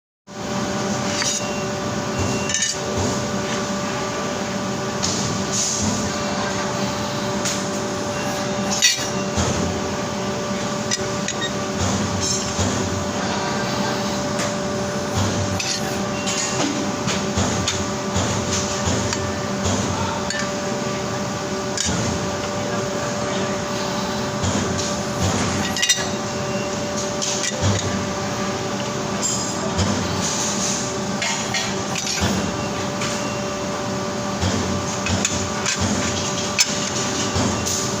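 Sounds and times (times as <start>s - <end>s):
bending machine humming: 0.3s - 38.0s.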